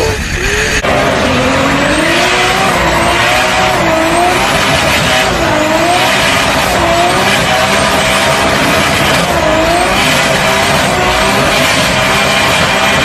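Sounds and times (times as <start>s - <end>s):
loud rushing noise: 0.0s - 13.0s
turbocharged car engine revving: 0.0s - 13.0s.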